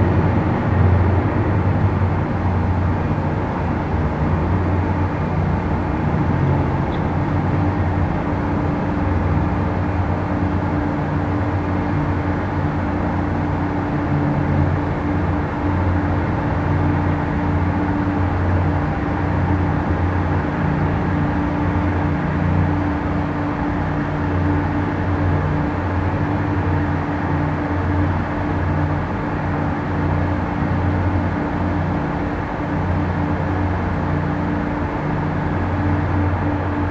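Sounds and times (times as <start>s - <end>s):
steady mechanical drone: 0.0s - 36.9s.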